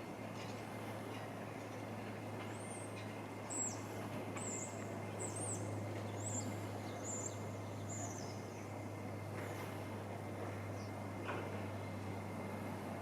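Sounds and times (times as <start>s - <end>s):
low hum and rumble: 0.0s - 13.0s.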